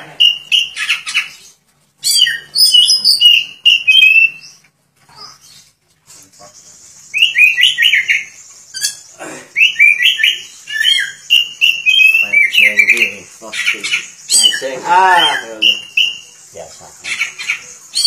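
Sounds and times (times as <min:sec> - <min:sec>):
bird singing whistles and chirps: 0:00.2 - 0:04.6, 0:07.0 - 0:18.0.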